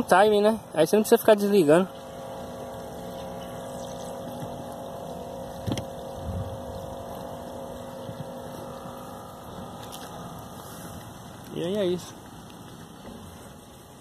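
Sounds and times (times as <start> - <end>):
small water pump humming: 0.0 - 14.0.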